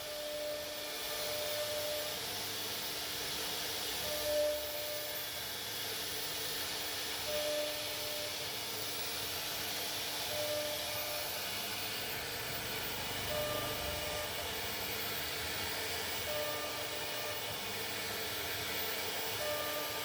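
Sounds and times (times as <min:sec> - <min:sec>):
constant machine hum: 0:00.0 - 0:20.0
router whirring hiss: 0:00.0 - 0:20.0.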